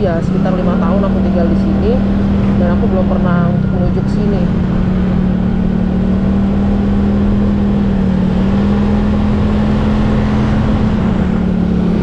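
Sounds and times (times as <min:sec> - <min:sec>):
scooter engine droning: 0:00.0 - 0:12.0.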